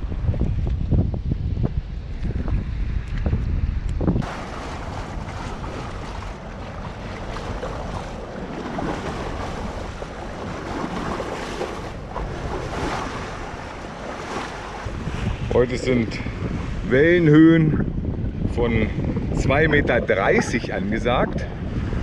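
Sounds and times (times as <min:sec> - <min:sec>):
wind on the microphone: 0:00.0 - 0:22.0
sea water rushing along a boat: 0:04.2 - 0:22.0.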